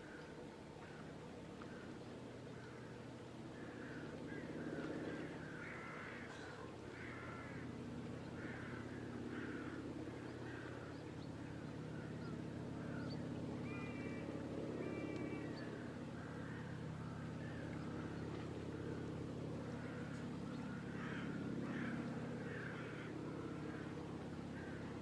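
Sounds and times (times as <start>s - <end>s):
birds calling: 0.0s - 25.0s
clear steady-pitched bird calls: 0.0s - 25.0s.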